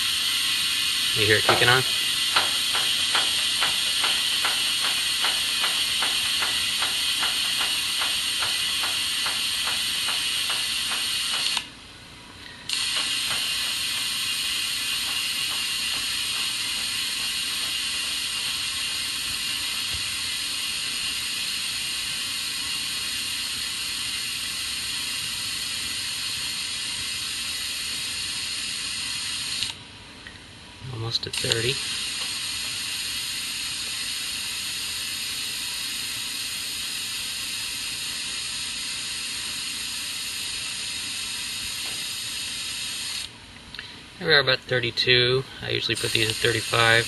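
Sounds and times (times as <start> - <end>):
compressed air hissing into tyre: 0.0 - 11.7, 12.4 - 29.8, 31.5 - 43.3, 46.0 - 47.0.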